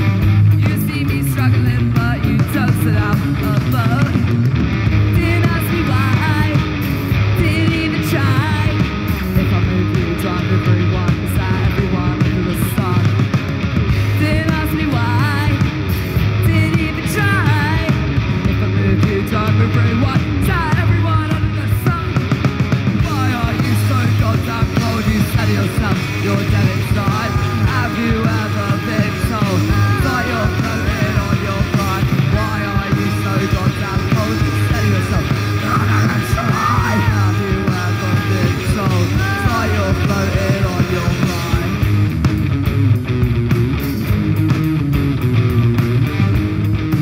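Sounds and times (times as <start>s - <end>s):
bass guitar: 0.0s - 47.0s
drum kit: 0.0s - 47.0s
electric guitars: 0.0s - 47.0s
yelled vocals: 0.0s - 47.0s.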